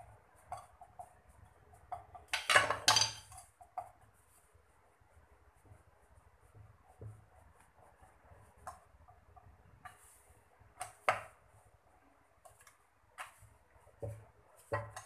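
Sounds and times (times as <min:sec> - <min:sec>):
dough rubbing and scraping on plate: 0:00.0 - 0:15.0.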